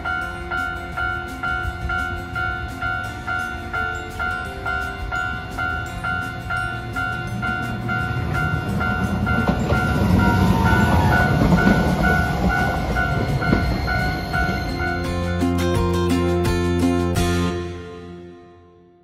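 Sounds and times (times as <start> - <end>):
level-crossing alarm ringing: 0.0 - 17.0
tram rumble and wheel noise: 0.0 - 18.3.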